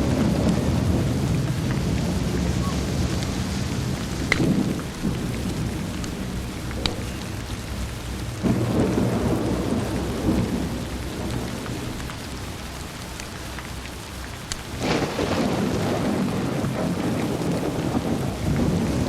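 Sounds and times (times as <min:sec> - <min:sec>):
low rolling thunder: 0:00.0 - 0:19.0
steady rain: 0:00.0 - 0:19.0
wood fire crackles: 0:00.0 - 0:19.0.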